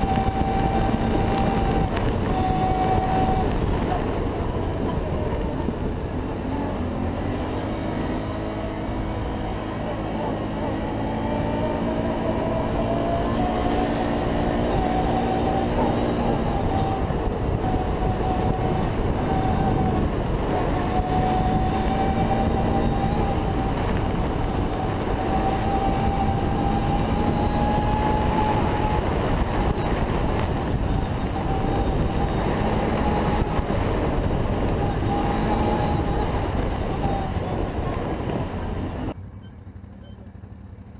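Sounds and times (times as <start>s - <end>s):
atv engine cruising: 0.0s - 40.9s
wind and tyres rumbling on dirt: 0.0s - 40.9s.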